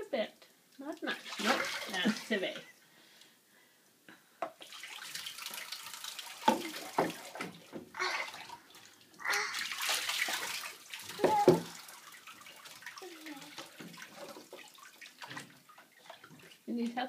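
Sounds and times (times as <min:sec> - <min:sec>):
bathwater splashing in a tub: 0:00.8 - 0:02.7, 0:04.6 - 0:17.0.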